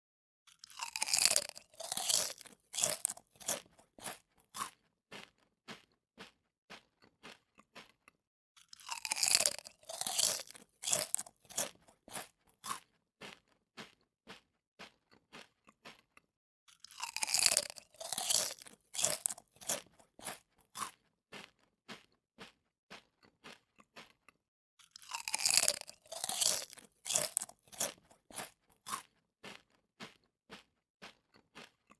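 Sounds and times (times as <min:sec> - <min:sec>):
crunchy chewing: 0:00.5 - 0:31.9.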